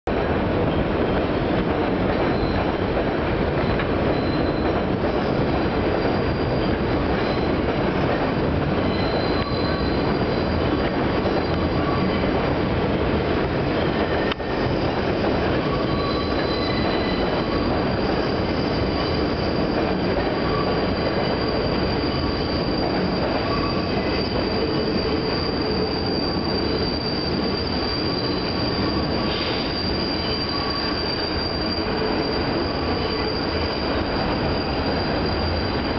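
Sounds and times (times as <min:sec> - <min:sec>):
train wheels rumbling on rail: 0:00.1 - 0:35.9
high wheel squeal: 0:02.3 - 0:02.9, 0:03.5 - 0:12.6, 0:13.5 - 0:35.9.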